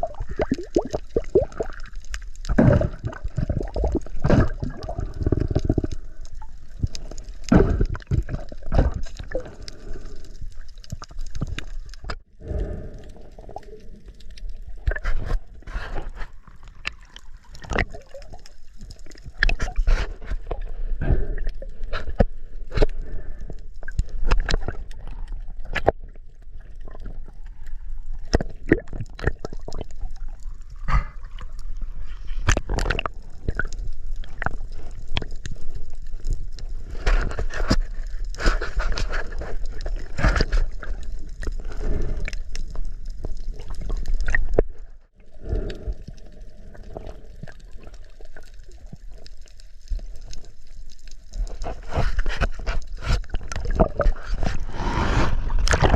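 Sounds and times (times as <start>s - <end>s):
water gurgling and sloshing: 0.0s - 55.9s.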